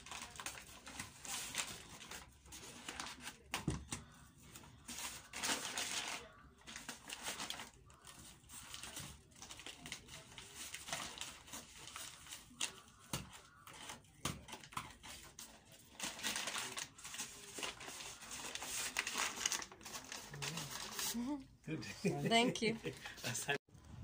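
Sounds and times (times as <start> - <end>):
paper crinkling and rustling: 0.0 - 21.4.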